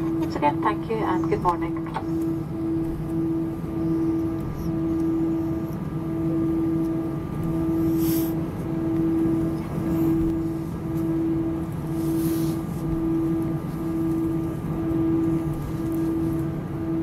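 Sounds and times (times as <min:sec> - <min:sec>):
airplane engines idling drone: 0:00.0 - 0:17.0.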